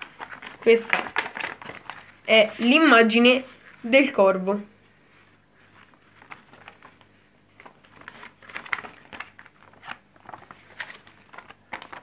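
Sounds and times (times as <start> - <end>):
paper rustling and crinkling: 0.0 - 4.2, 5.1 - 12.0.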